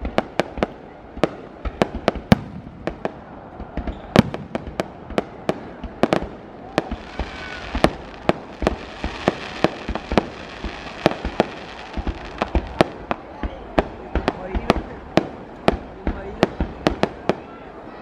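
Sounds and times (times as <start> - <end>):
fireworks bursting: 0.0 - 17.8.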